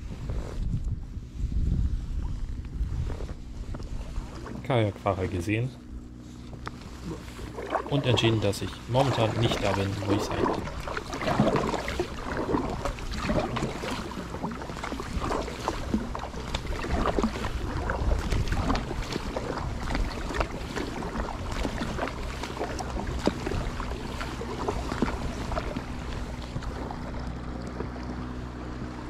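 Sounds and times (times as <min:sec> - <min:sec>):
low wind rumble: 0:00.0 - 0:29.0
steady low hum: 0:00.0 - 0:29.0
paddle strokes splashing water: 0:03.0 - 0:29.0.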